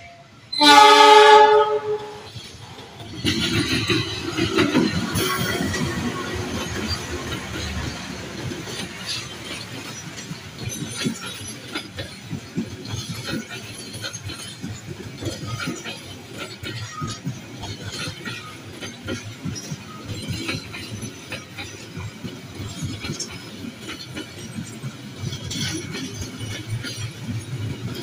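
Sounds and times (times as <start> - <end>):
train wheels clanking over rail joints: 0.7 - 28.0.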